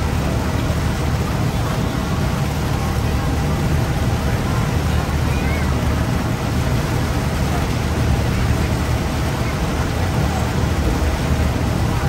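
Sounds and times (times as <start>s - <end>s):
boat engines rumbling: 0.0s - 12.0s
water rushing past hull: 0.0s - 12.0s.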